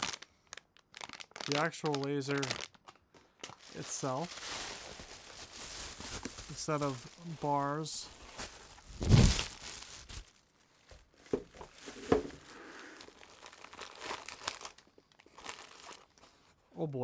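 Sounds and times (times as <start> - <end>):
plastic wrap crinkling: 0.0 - 16.6.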